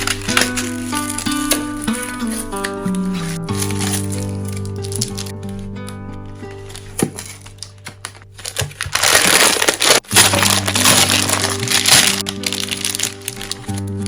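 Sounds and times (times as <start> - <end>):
snacks crackling and crunching: 0.0 - 14.0
soft piano music: 0.0 - 14.0.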